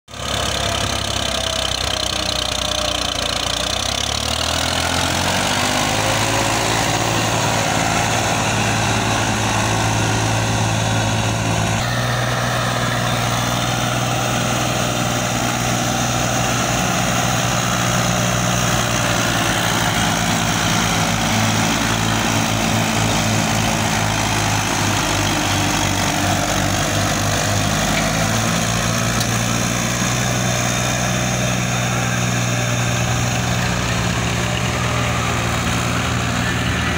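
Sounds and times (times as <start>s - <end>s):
diesel tractor engines straining: 0.1s - 36.9s.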